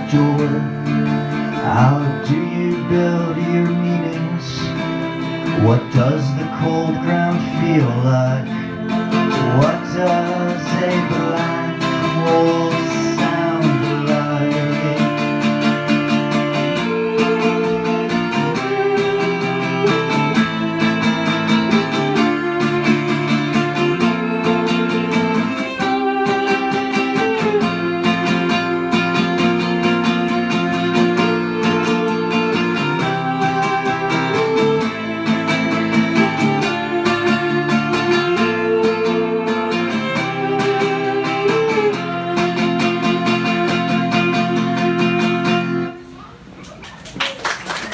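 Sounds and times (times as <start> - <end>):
viola: 0.0 - 46.4
acoustic guitar strummed and picked: 0.0 - 46.6.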